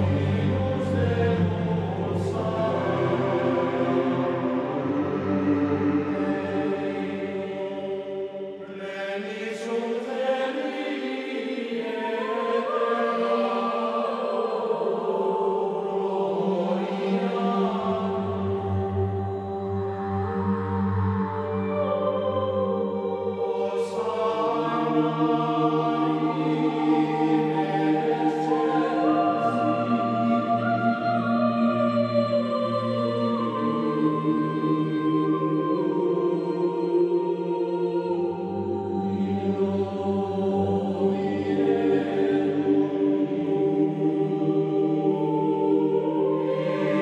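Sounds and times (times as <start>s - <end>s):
voices chanting long notes: 0.0s - 47.0s.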